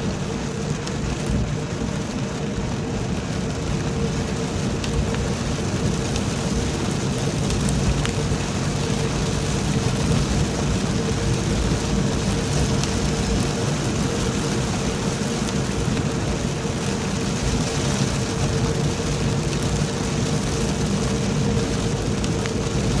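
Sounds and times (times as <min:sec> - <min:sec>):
heavy rain falling: 0:00.0 - 0:23.0
low hum and rumble: 0:00.0 - 0:23.0.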